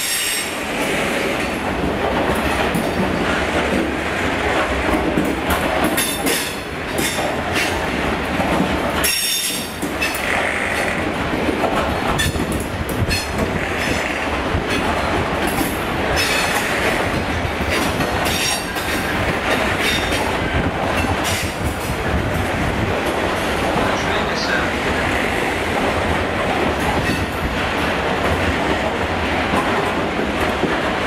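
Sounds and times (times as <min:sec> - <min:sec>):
freight train wheels clattering: 0:00.0 - 0:31.0.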